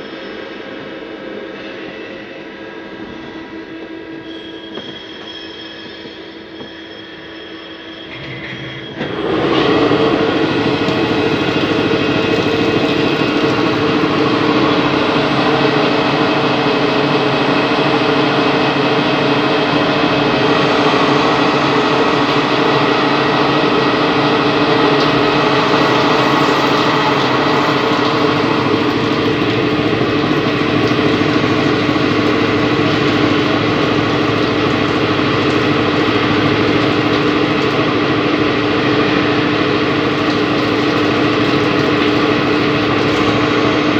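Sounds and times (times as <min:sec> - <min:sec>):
lathe machine whine: 0:00.0 - 0:43.9.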